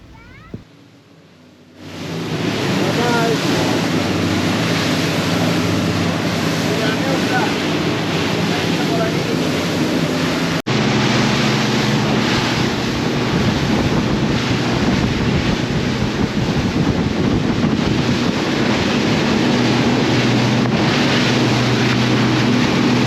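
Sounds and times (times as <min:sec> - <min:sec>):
wind buffeting microphone: 0:00.0 - 0:00.7, 0:01.9 - 0:23.0
outboard engine drone: 0:00.0 - 0:23.0
water rushing off hull: 0:01.8 - 0:23.0.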